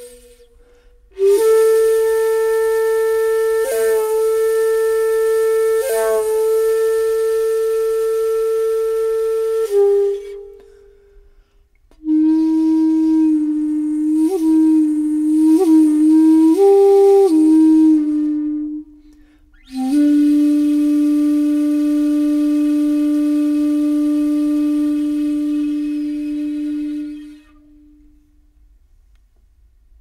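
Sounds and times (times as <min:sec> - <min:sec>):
solo flute playing long notes: 0:00.0 - 0:28.5.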